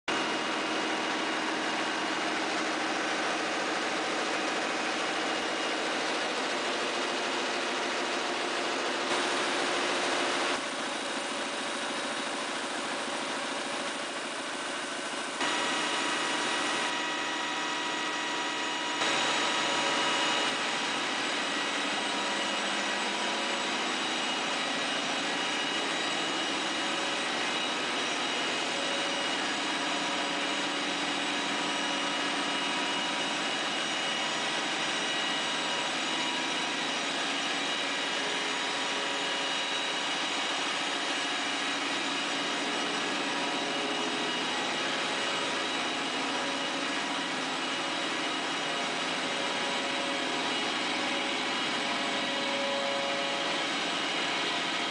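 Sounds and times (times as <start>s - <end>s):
printing press mechanical din: 0.1s - 54.9s
whining rollers and drives: 0.1s - 54.9s.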